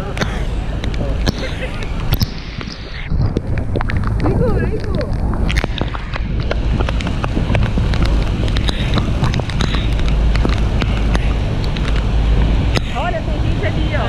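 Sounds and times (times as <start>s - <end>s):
waterfall rumbling: 0.0s - 14.0s
wind buffeting microphone: 0.0s - 14.0s
water drops clicking on mic: 0.2s - 13.0s.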